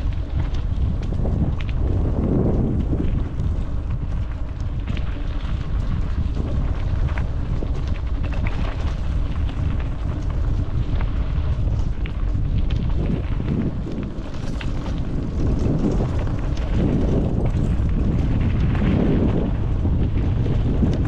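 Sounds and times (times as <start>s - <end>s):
bike clicks and rattles: 0.0s - 21.0s
wind buffeting microphone: 0.0s - 21.0s.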